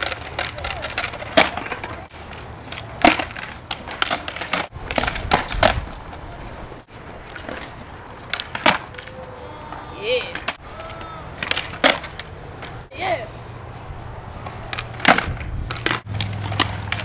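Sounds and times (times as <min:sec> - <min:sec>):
skateboard tail popping and landing: 0:00.0 - 0:12.8, 0:14.4 - 0:17.0
skateboard wheels rolling on concrete: 0:00.0 - 0:17.0.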